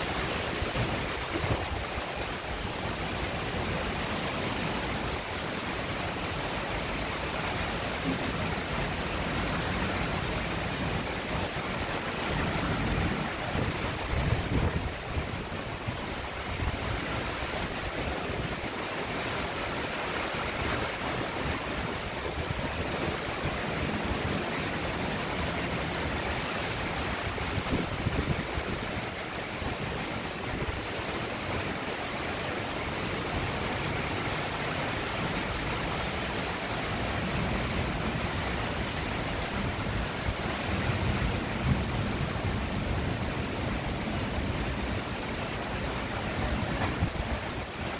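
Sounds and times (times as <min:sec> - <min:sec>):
heavy rain on water and metal roofs: 0:00.0 - 0:47.9.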